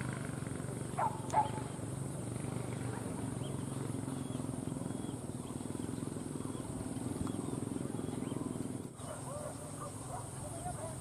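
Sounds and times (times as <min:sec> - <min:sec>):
pack of dogs barking and baying: 0:00.9 - 0:01.9, 0:02.7 - 0:11.0.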